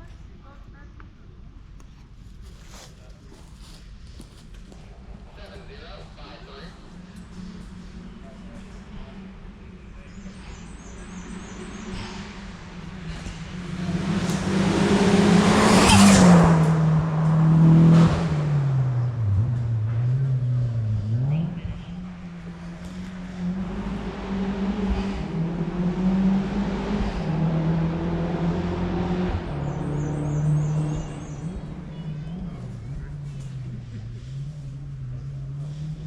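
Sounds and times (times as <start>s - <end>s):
race car engine passing by: 5.4s - 36.0s.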